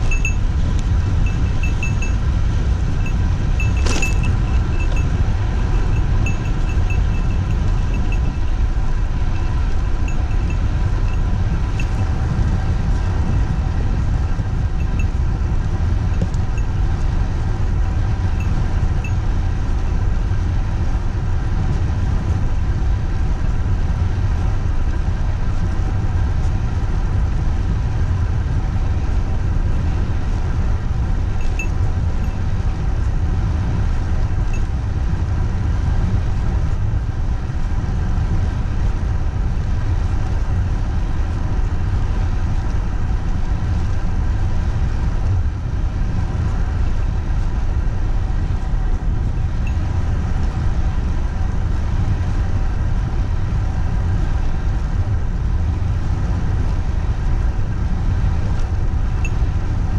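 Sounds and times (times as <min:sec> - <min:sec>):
bike tyres rolling hum: 0:00.0 - 0:59.9
wind buffeting microphone: 0:00.0 - 0:59.9.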